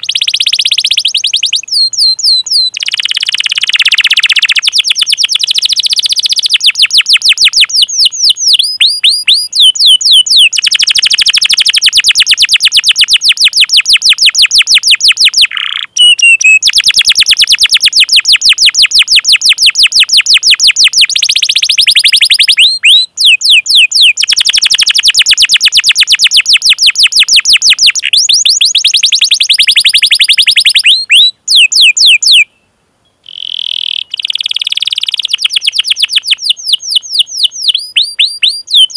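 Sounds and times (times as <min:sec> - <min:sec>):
canary singing chirps and trills: 0:00.0 - 0:38.9.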